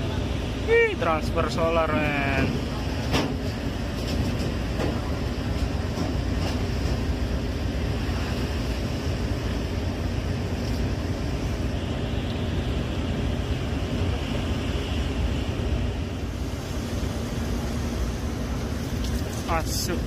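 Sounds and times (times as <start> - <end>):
sea noise: 0.0 - 20.0
ship engine rumble: 0.0 - 20.0
wind: 0.0 - 20.0.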